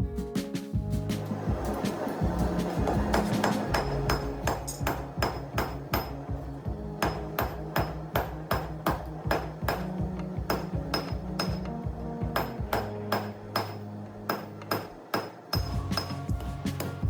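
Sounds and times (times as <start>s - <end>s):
hammer striking steel on anvil: 3.1s - 17.0s.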